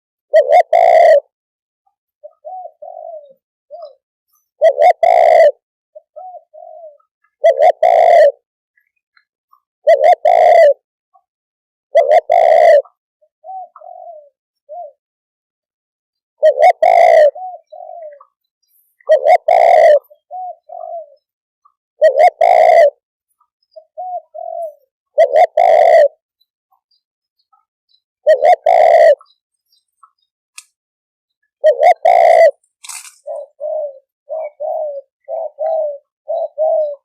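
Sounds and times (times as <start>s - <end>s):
dove cooing: 0.3s - 1.3s, 2.2s - 8.4s, 9.5s - 11.3s, 11.9s - 15.0s, 16.4s - 26.2s, 27.4s - 30.2s, 31.5s - 37.0s.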